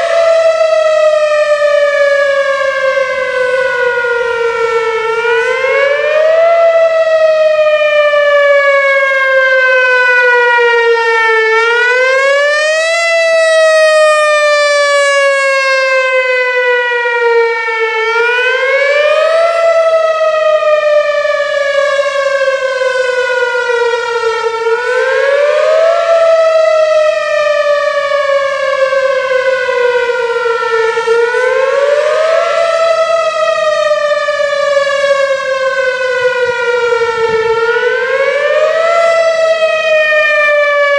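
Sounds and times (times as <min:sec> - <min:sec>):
outdoor warning siren wailing: 0:00.0 - 0:40.9.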